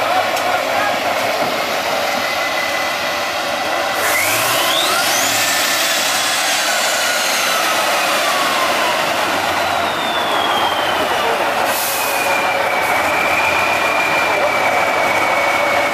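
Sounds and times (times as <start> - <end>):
truck engine running hard: 0.0 - 15.9.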